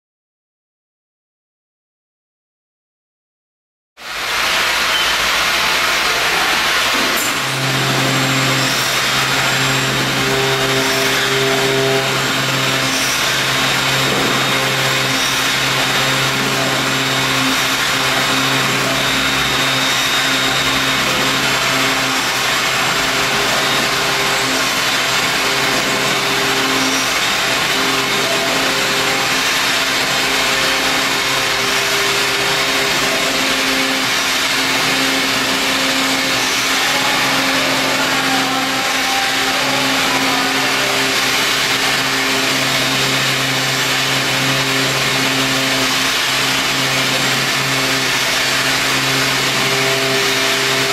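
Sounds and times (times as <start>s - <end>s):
cnc router spindle running: 4.0s - 50.9s.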